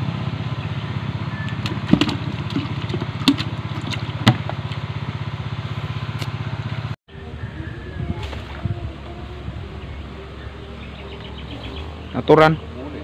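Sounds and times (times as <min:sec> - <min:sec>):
outdoor ambience: 0:00.0 - 0:13.0
small engine idling: 0:00.0 - 0:13.0.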